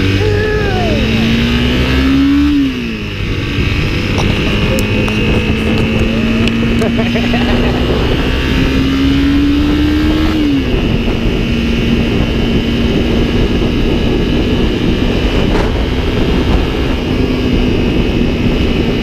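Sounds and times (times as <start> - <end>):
vehicle motor running: 0.0 - 19.0
wind noise on microphone: 0.0 - 19.0.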